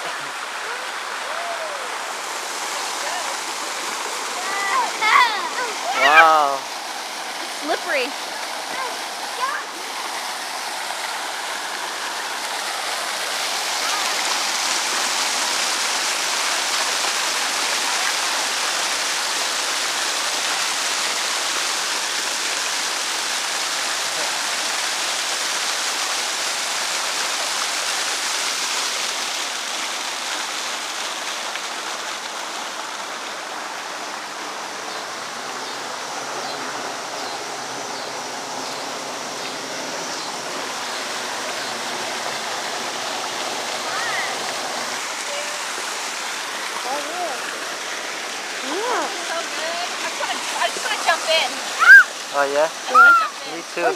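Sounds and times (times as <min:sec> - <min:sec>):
running water rushing: 0:00.0 - 0:53.9.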